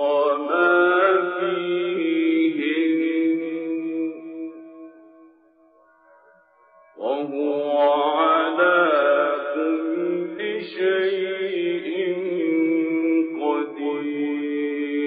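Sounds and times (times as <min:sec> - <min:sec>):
man chanting melodically: 0:00.0 - 0:05.0, 0:07.0 - 0:15.0.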